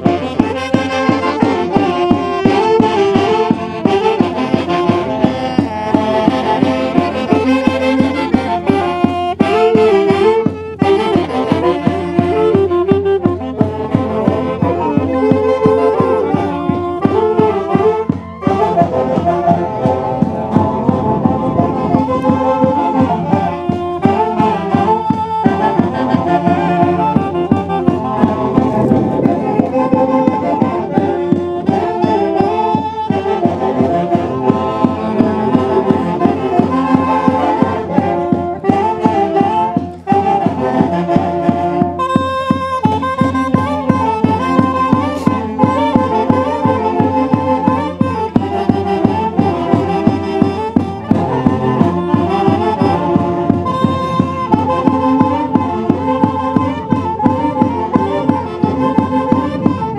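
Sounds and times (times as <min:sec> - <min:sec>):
bass drum beat: 0:00.0 - 0:59.9
saxophones playing: 0:00.0 - 0:59.9.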